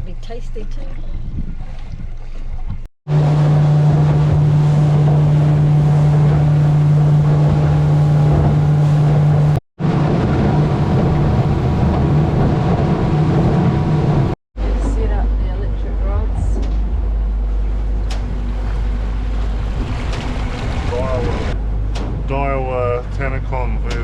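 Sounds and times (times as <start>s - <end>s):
motorboat engine running: 0.0s - 24.0s
wind and water rushing: 1.3s - 14.4s, 16.1s - 22.8s.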